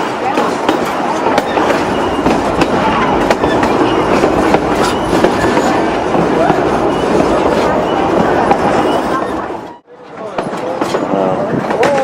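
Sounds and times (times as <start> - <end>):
train rolling rumble: 0.0 - 12.0
wheels clicking over rail joints: 0.0 - 12.0.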